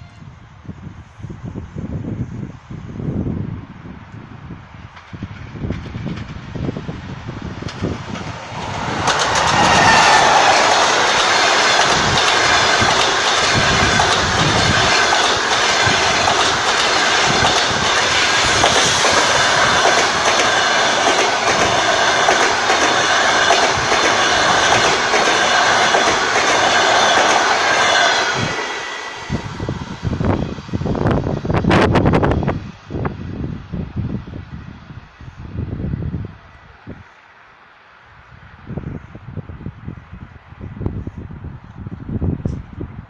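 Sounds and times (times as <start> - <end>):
electric locomotive passing: 0.0 - 39.8
train wheels rumbling on rails: 0.8 - 36.4.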